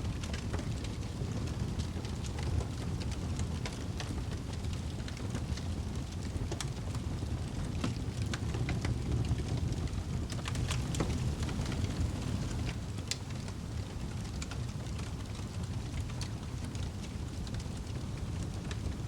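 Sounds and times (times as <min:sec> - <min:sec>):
crackles and pops of burning wood: 0:00.0 - 0:19.0
low rumble of flames: 0:00.0 - 0:19.0.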